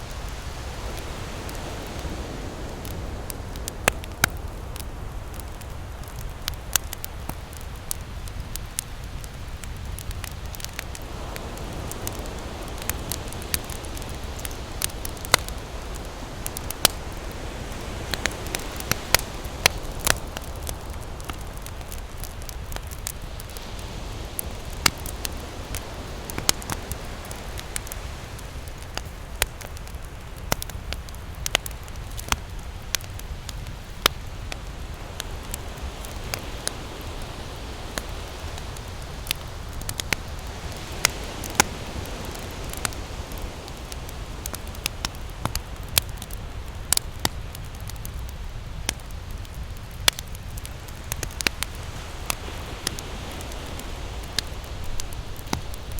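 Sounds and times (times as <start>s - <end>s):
ocean surf: 0.0s - 47.7s, 50.0s - 55.9s
campfire crackling and popping: 0.0s - 55.9s.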